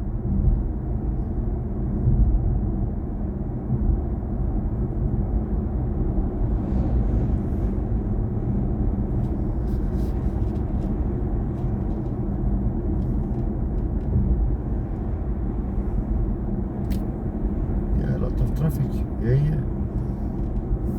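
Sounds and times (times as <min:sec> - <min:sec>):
road and tyre rumble: 0:00.0 - 0:20.9.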